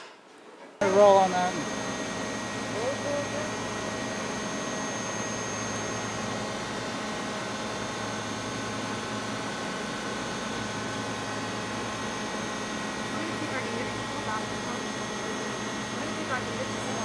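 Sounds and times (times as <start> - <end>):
factory machinery hum: 0.8 - 17.0
thin whine tones: 0.8 - 17.0.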